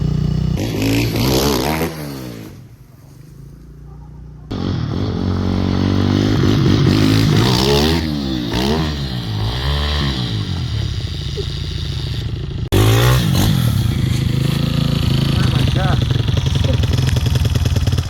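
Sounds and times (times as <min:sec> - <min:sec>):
dirt bike engine revving: 0:00.0 - 0:02.9, 0:03.6 - 0:18.0.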